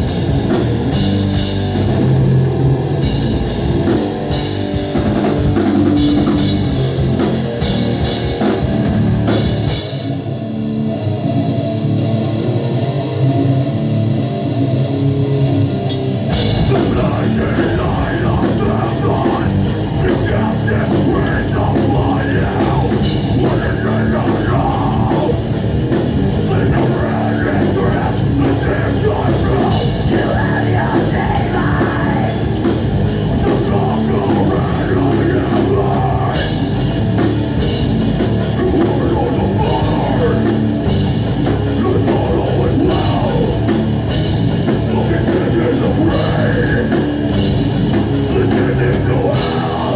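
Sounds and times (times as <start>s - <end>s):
drum kit: 0.0s - 10.5s, 15.8s - 49.9s
distorted guitars: 0.0s - 49.9s.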